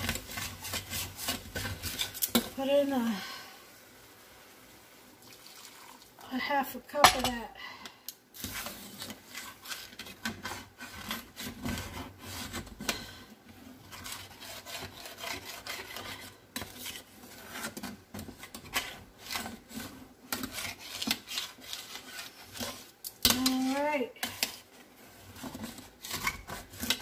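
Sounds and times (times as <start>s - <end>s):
metal tongs scraping a skillet: 0.0s - 3.0s, 7.0s - 7.5s, 8.3s - 27.0s.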